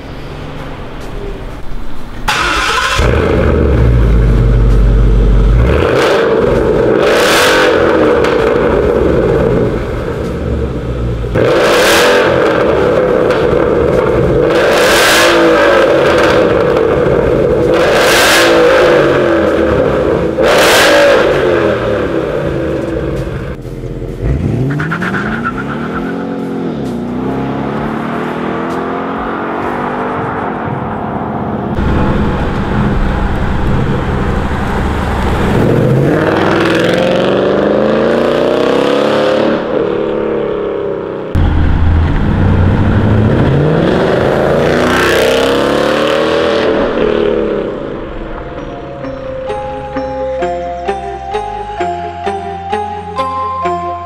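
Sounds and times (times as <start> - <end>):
car engine revving: 0.0 - 50.2
car accelerating away: 2.3 - 49.7.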